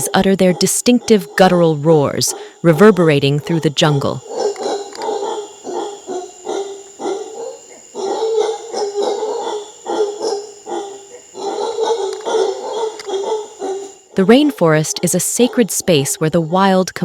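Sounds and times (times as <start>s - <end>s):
howler monkeys roaring: 0.0s - 17.0s.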